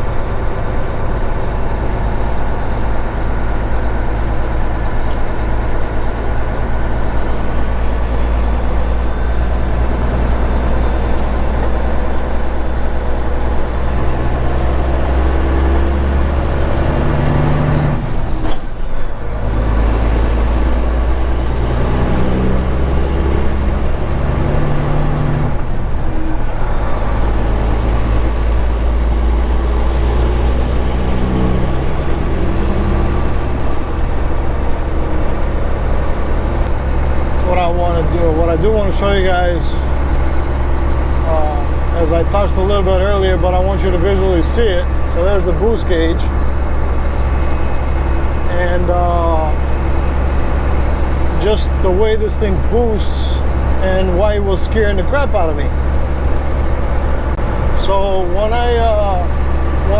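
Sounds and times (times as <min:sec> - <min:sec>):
diesel truck engine pulling hard: 0:00.0 - 0:59.9.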